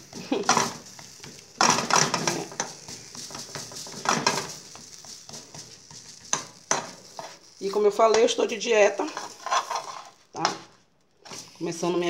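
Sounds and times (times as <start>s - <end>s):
faint frying sizzle: 0.0s - 12.0s
metal spoon scraping a frying pan: 0.4s - 10.7s.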